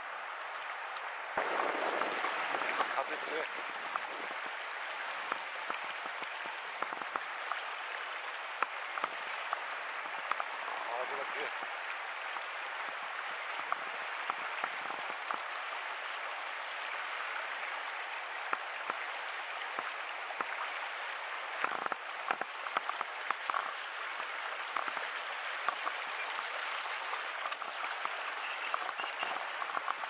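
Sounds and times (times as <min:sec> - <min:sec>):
river rapids rushing over stones: 0:00.1 - 0:30.0
small water splashes: 0:00.4 - 0:30.0.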